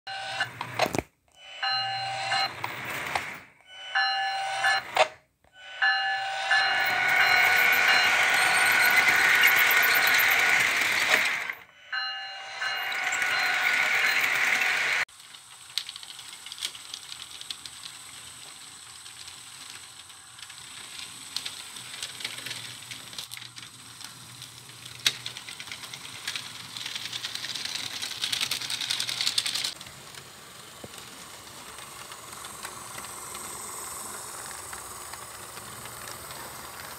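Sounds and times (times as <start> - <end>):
model trains hissing and rattling: 6.3 - 11.6, 12.6 - 36.9.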